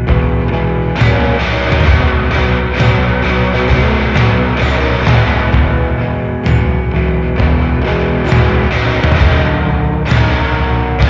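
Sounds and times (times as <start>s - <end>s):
rock music with guitar: 0.0s - 11.0s
steady drums: 0.0s - 11.0s
strike: 1.0s - 11.0s.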